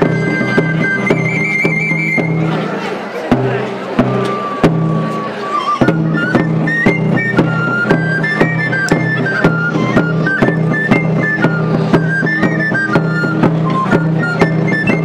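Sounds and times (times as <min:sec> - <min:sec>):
drum beating steadily: 0:00.0 - 0:15.0
small pipe playing folk dance tune: 0:00.0 - 0:15.0.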